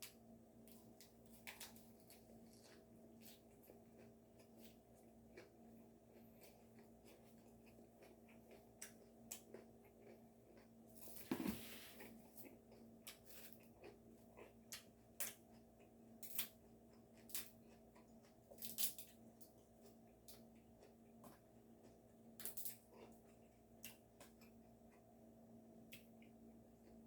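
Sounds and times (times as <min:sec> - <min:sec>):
soft clicks and chewing: 0:00.0 - 0:11.2, 0:12.0 - 0:27.0
faint steady hum: 0:00.0 - 0:27.0.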